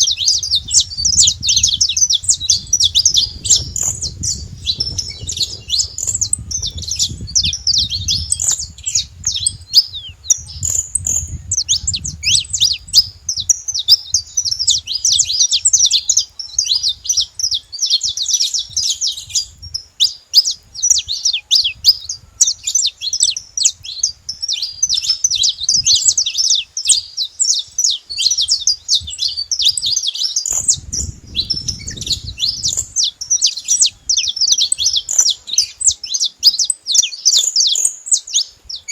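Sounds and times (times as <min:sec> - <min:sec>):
finch singing rapid chirps: 0:00.0 - 0:38.9.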